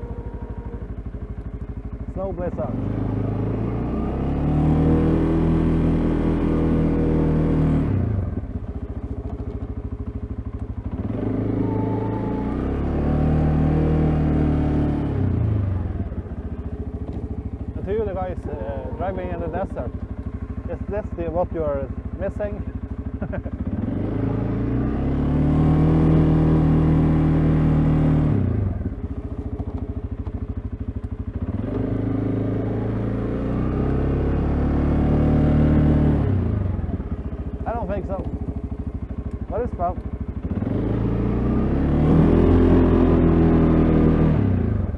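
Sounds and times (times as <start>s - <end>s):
quad bike engine revving and idling: 0.0s - 44.9s.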